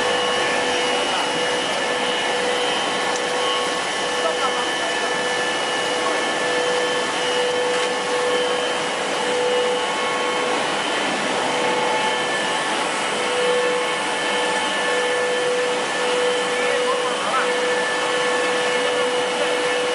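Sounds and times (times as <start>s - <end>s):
machine whirring: 0.0s - 19.9s
whining machine tones: 0.0s - 19.9s.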